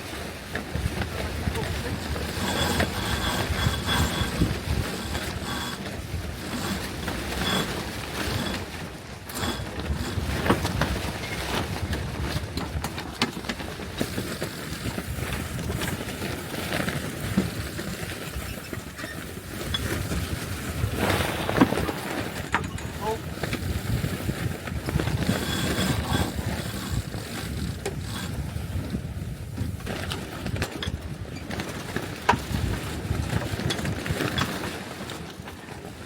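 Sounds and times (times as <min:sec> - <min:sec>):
wind buffeting microphone: 0:00.0 - 0:34.4
knocks and clicks from rigging: 0:00.5 - 0:29.0, 0:29.6 - 0:35.5.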